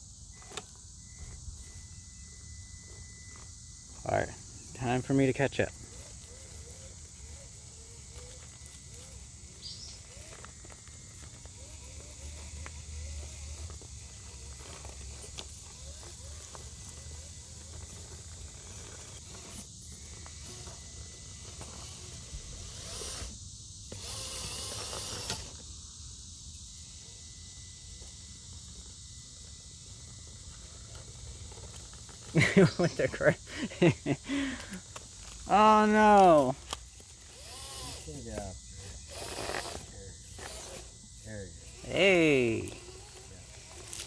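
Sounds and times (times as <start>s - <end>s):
insects chirring: 0.0s - 44.0s
small electric motor whine: 0.0s - 44.0s.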